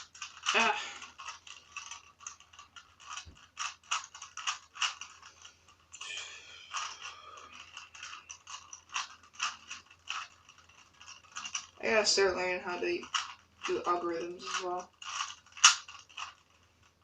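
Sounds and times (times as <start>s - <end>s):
puzzle cube clicking and scraping: 0.0s - 17.0s.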